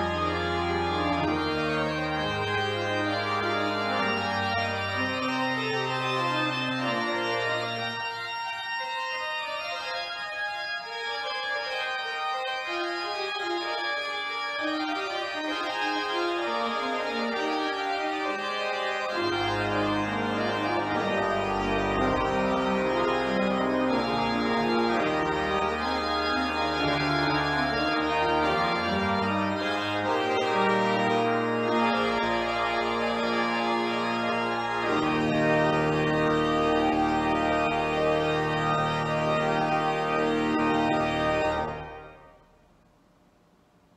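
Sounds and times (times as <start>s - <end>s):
deep organ pedal bass notes: 0.0s - 42.2s
pipe organ chords: 0.0s - 42.6s.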